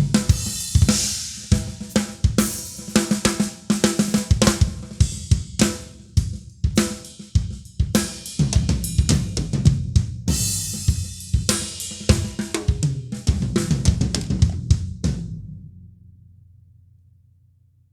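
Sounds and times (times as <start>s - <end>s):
drum kit playing: 0.0s - 15.9s.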